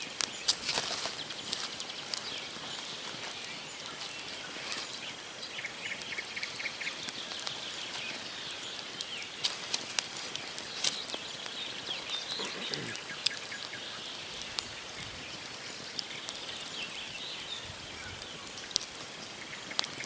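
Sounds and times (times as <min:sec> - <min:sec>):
campfire crackling: 0:00.0 - 0:20.0
bird chirping: 0:00.3 - 0:20.0.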